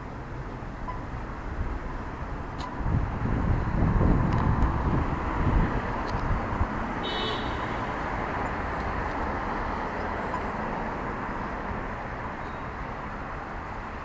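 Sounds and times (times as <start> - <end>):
passing vehicles: 0.0 - 14.0.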